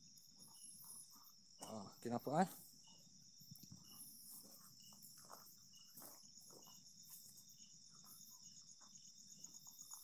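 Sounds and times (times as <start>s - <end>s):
crickets trilling: 0.0s - 10.0s
short insect call: 0.0s - 10.0s.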